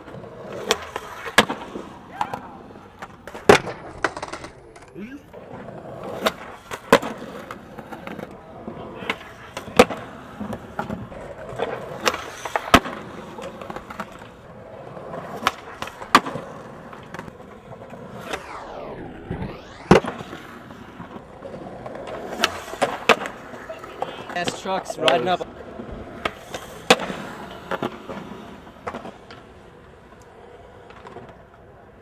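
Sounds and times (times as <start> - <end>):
skateboard popping and landing: 0.0 - 18.9, 19.5 - 32.0
skateboard wheels rolling on concrete: 0.0 - 32.0.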